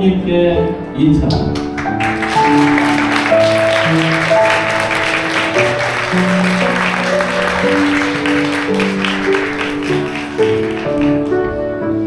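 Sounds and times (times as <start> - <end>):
slow instrumental music: 0.0 - 12.0
audience clapping: 1.4 - 11.6.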